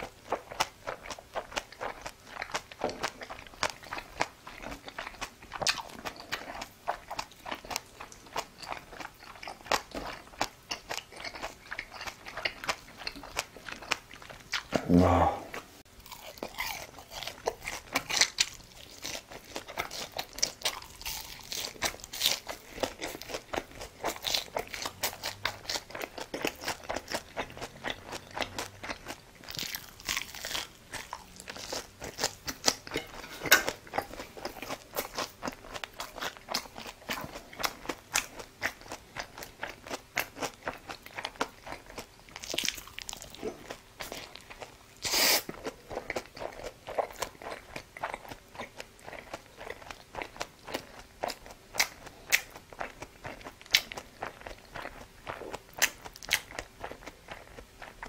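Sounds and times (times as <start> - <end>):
person crunching and chewing food: 0.0 - 58.0.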